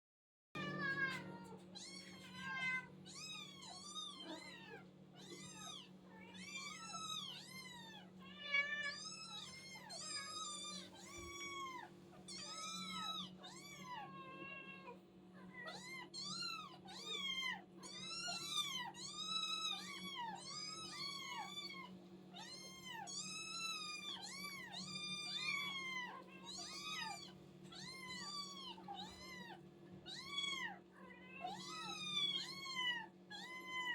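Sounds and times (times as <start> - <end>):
kittens meowing: 0.6 - 33.9.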